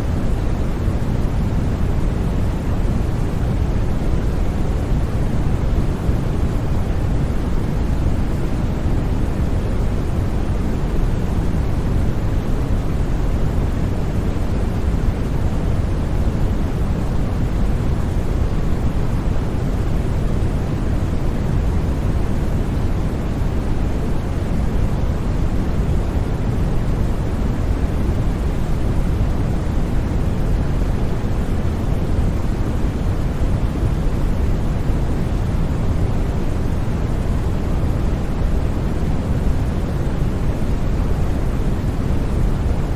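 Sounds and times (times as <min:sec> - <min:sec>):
white noise: 0:00.0 - 0:42.9.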